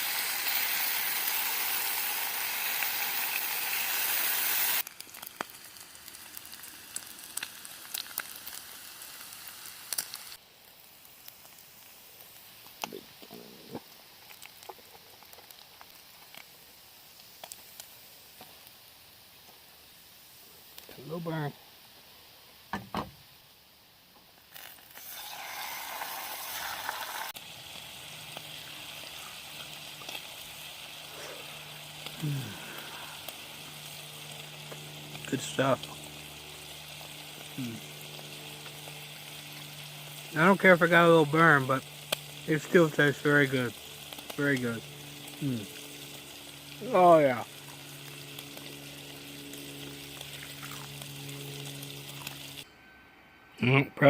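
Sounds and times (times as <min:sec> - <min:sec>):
bacon sizzling in a frying pan: 0:00.0 - 0:52.6.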